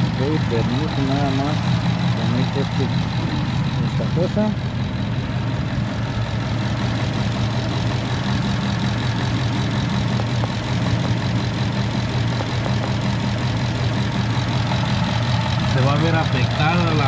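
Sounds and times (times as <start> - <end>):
car engine idling with misfire: 0.0 - 17.0.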